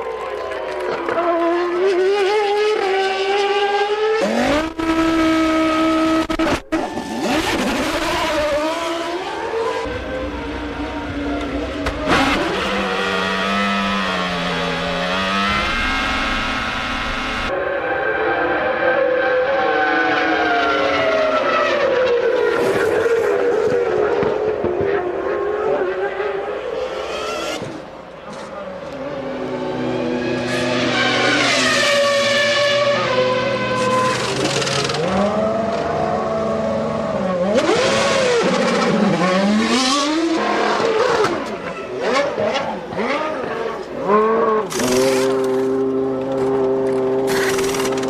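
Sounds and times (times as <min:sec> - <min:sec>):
racing car engines at high revs: 0:00.2 - 0:48.0.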